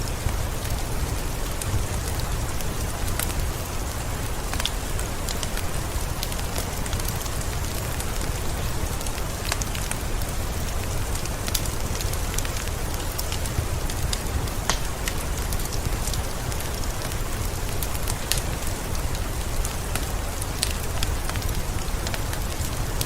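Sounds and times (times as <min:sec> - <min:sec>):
rain falling: 0:00.0 - 0:23.0
wood fire crackling and popping: 0:00.0 - 0:23.0.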